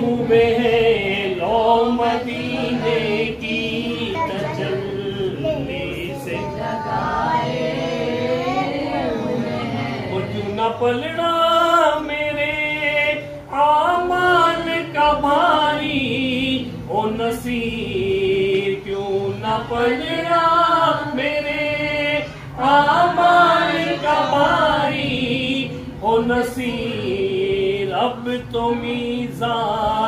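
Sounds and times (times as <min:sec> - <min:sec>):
men singing unaccompanied: 0:00.0 - 0:30.0.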